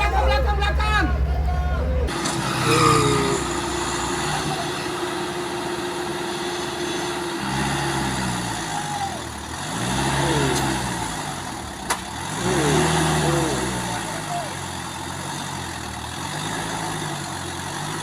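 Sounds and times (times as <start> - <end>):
truck diesel engine revving: 0.0 - 18.0.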